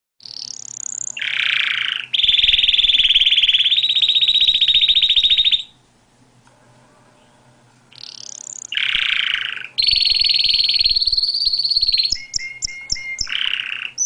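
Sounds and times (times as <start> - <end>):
canary singing: 0.2 - 5.8, 7.1 - 14.0.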